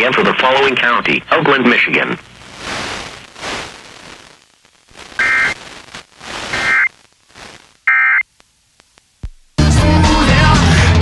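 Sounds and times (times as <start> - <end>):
radio hiss and static: 0.0 - 9.5.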